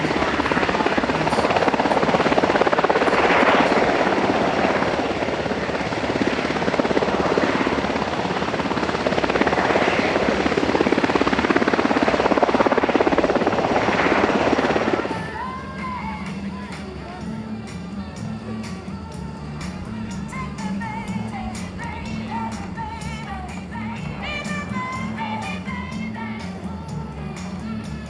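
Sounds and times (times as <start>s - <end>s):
helicopter flying close by: 0.0s - 28.0s.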